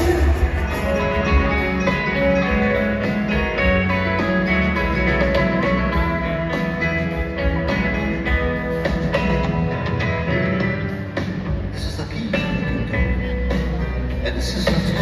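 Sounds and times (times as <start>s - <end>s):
live band playing amplified music: 0.0s - 15.0s.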